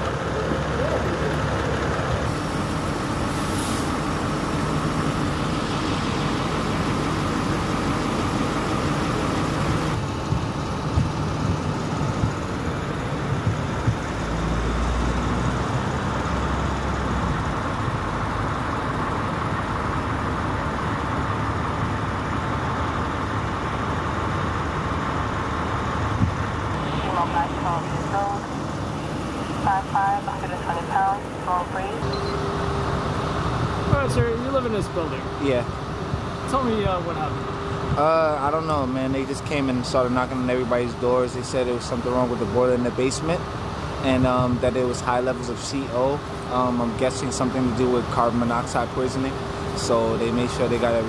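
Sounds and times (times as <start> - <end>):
deep low engine sound: 0.0 - 51.0
large vehicle engines idling: 0.0 - 51.0
street traffic noise: 0.0 - 51.0.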